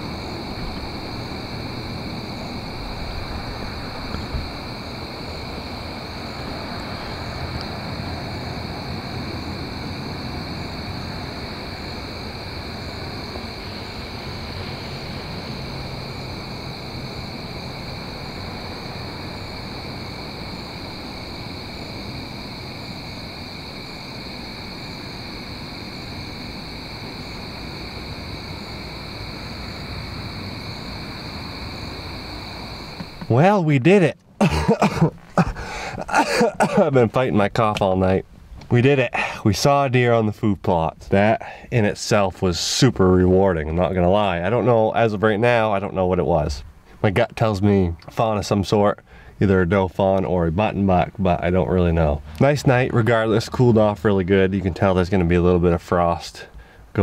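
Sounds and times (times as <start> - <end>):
crickets trilling: 0.0 - 57.0
low rumbling hiss: 0.0 - 57.0.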